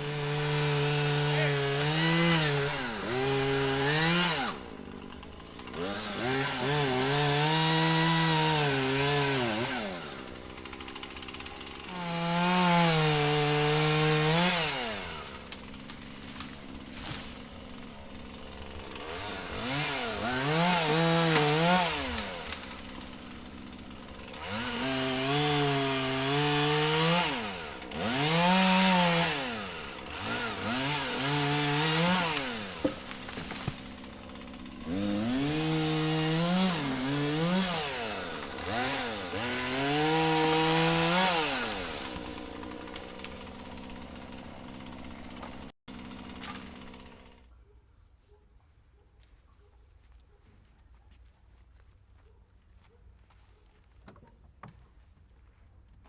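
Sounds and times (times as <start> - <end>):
chainsaw cutting wood: 0.0 - 47.5.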